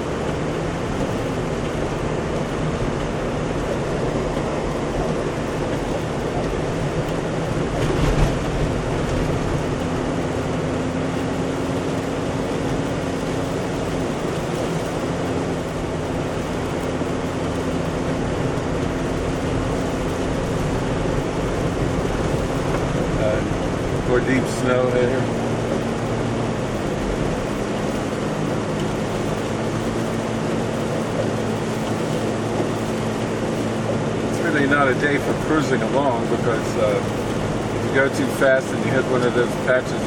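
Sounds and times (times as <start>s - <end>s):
car road noise on snow: 0.0s - 40.0s.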